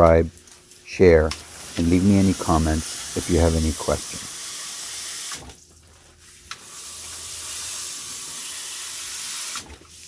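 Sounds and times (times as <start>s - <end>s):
hose spraying water: 0.6s - 5.6s, 6.5s - 10.0s.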